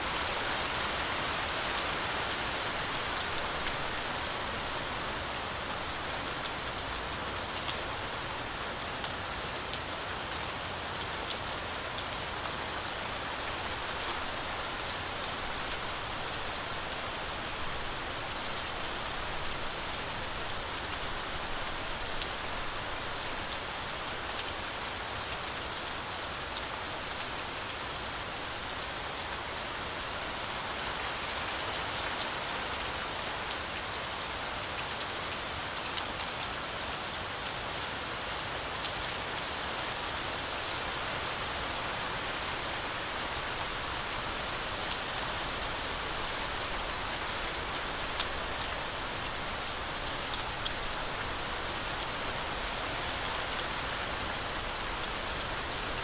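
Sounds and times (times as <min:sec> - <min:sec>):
heavy rain through trees: 0:00.0 - 0:56.0.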